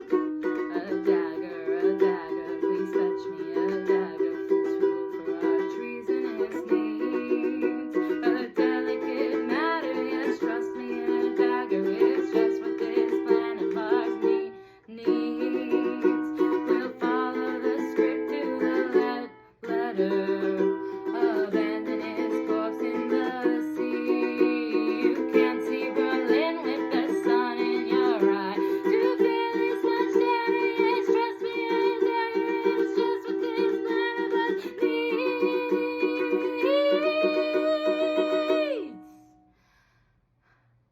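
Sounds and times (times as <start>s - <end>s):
ukulele strumming chords: 0.0s - 39.2s.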